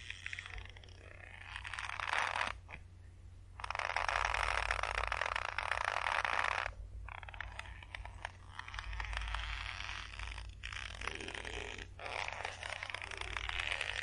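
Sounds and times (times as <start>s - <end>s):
rope creaking under tension: 0.0s - 2.8s, 3.6s - 14.0s.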